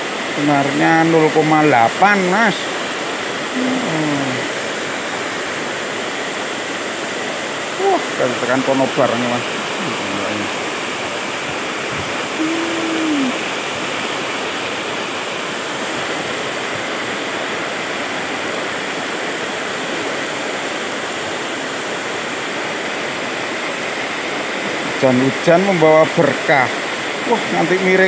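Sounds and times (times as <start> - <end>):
heavy rain: 0.0 - 28.0
river rushing over rocks: 0.0 - 28.0.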